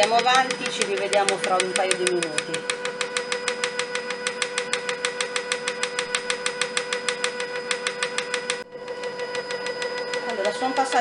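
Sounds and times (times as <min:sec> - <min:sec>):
fast even ticking: 0:00.0 - 0:11.0
food processor motor hum: 0:00.0 - 0:11.0.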